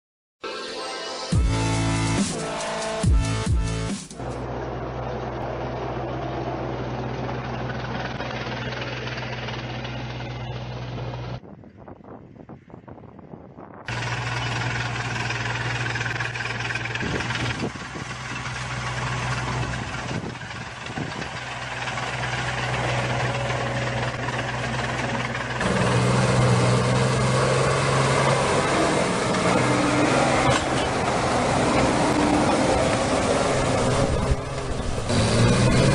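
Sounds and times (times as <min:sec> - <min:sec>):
diesel tractor engines droning: 0:01.1 - 0:35.9.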